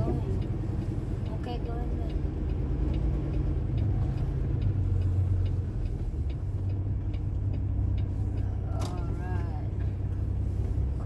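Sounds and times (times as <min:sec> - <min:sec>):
faint light ticks: 0:00.0 - 0:11.0
truck engine and road drone: 0:00.0 - 0:11.0.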